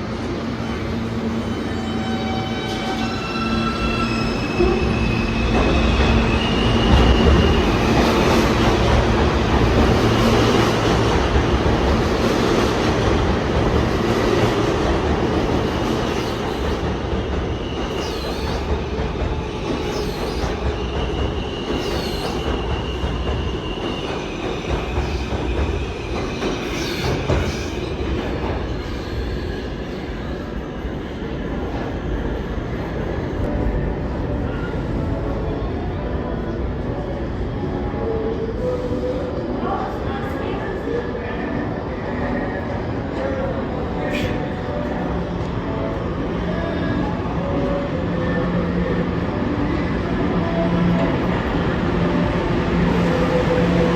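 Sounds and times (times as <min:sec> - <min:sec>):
subway train wheels rumbling on rails: 0:00.0 - 0:53.9.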